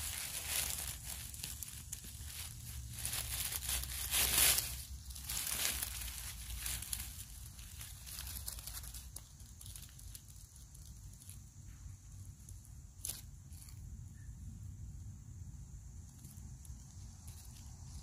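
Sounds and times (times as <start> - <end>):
dry leaves rustling: 0.0 - 13.8, 16.1 - 18.0.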